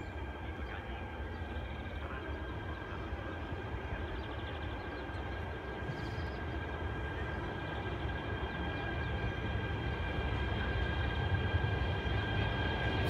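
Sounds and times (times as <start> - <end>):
electric train rumbling: 0.0 - 13.0
high-pitched train whine: 0.0 - 13.0.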